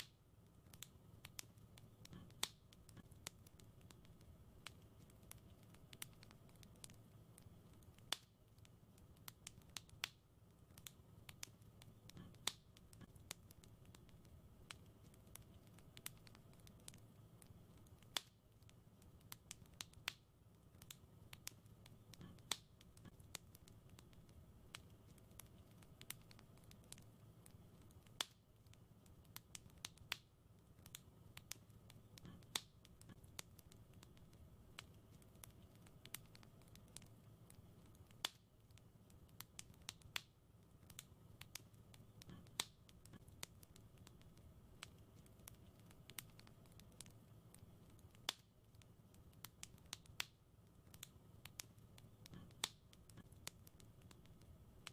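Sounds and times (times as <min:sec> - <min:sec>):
fire crackling in a fireplace: 0:00.0 - 0:54.9.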